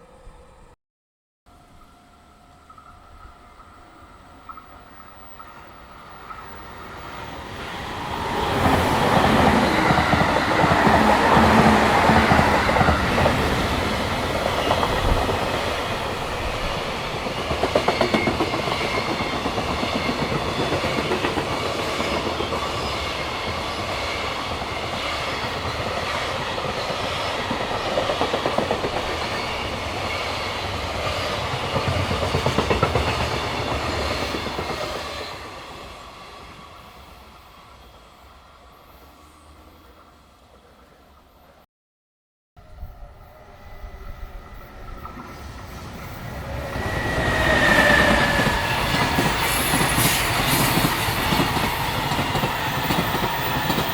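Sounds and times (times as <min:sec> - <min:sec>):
freight train passing: 0:01.5 - 0:41.6, 0:42.6 - 0:53.9.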